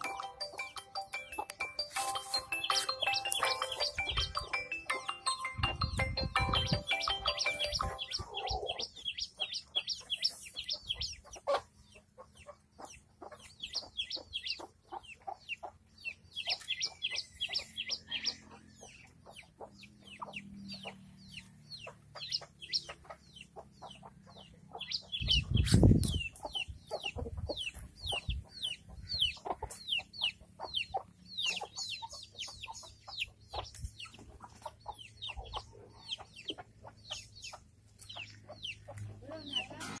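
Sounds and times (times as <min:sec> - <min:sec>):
chick peeping: 0:00.0 - 0:40.0
hens clucking: 0:00.0 - 0:40.0.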